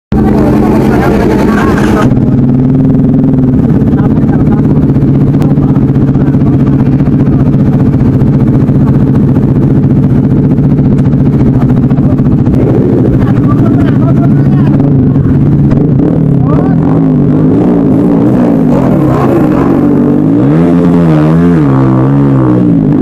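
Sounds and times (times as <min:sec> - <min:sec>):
motorcycle engine idling: 0:00.1 - 0:23.0.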